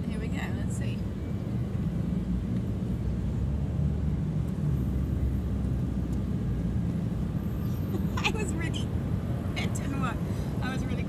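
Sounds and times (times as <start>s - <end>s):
low city rumble: 0.0s - 11.0s.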